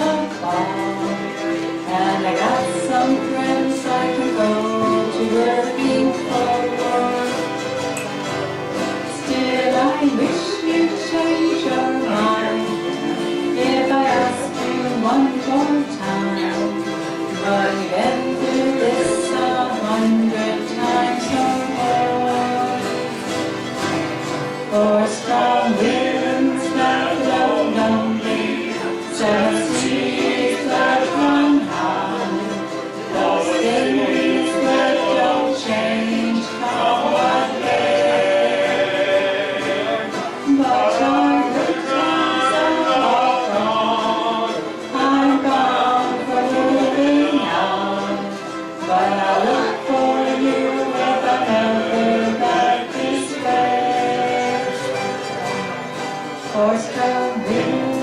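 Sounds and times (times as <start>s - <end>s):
acoustic band playing: 0.0s - 58.0s.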